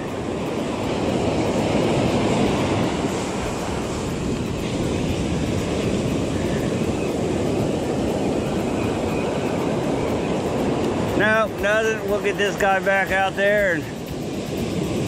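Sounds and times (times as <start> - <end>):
surf washing hiss: 0.0 - 15.0
wind buffeting microphone: 0.0 - 15.0.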